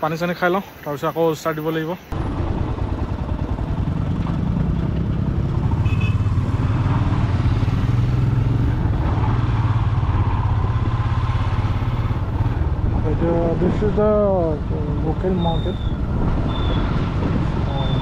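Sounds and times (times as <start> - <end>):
motorcycle engine cruising: 2.1 - 18.0.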